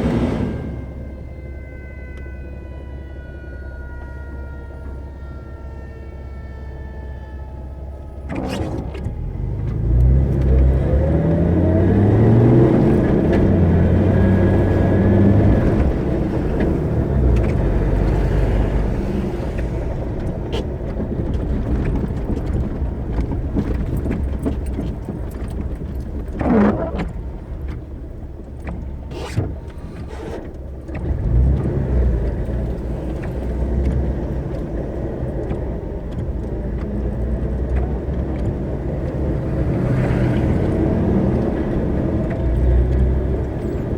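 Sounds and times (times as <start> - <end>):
car engine accelerating: 0.0 - 2.3, 4.0 - 43.9
tyre and road noise: 0.0 - 43.9.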